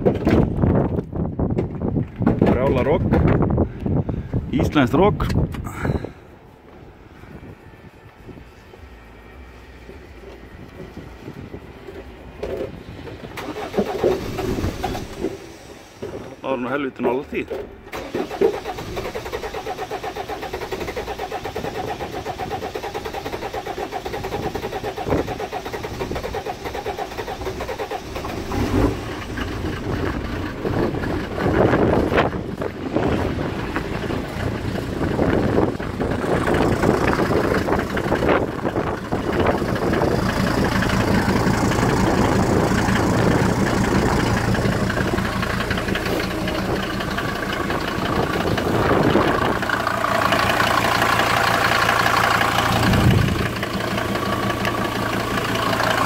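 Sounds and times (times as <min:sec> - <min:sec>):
diesel engine cranking and idling: 0:00.0 - 0:56.0.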